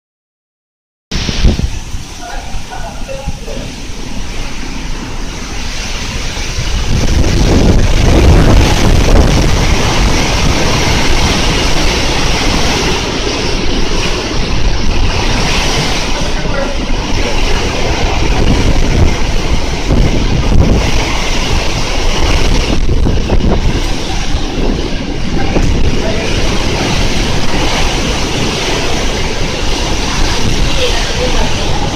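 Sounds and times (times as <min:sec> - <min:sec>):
strong wind buffeting microphone: 0:01.1 - 0:31.9.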